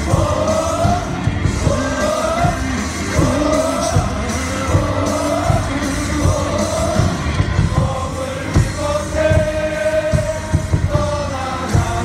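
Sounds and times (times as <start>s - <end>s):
amplified music: 0.0s - 12.0s
crowd singing a cheer song: 0.0s - 12.0s
steady drum beat: 0.0s - 12.0s.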